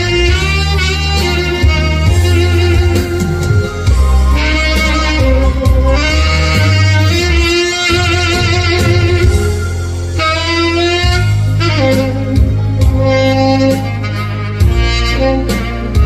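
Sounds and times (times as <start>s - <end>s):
backing track with bass and drums: 0.0s - 16.0s
saxophone melody: 0.0s - 16.0s.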